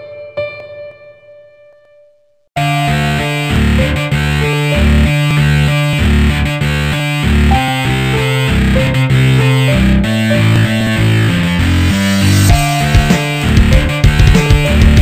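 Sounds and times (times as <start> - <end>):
distorted buzzy riff: 2.6 - 15.0
pulsing bass line: 2.6 - 15.0.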